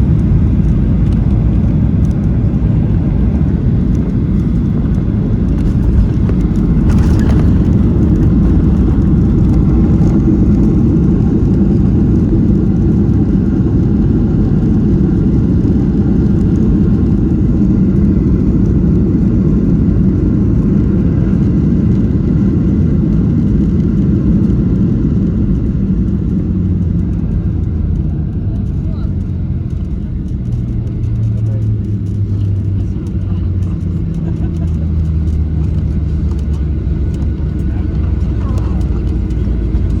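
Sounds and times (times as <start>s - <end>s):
jet engine cabin rumble: 0.0s - 40.0s.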